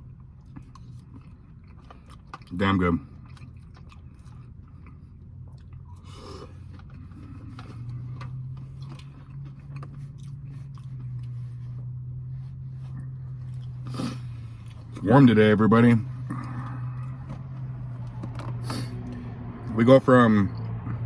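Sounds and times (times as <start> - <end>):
person chewing food: 0.0 - 15.0, 16.1 - 19.3
low hum: 3.1 - 21.0.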